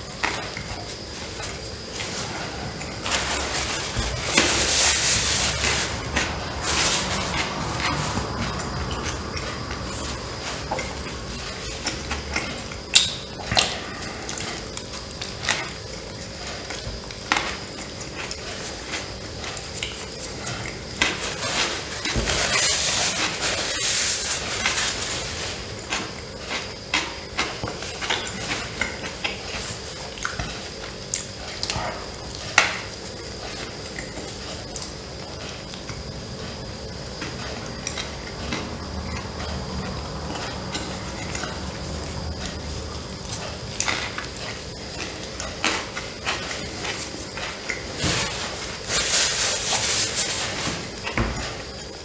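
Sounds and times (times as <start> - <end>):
man chewing sandwich: 0.0 - 52.0.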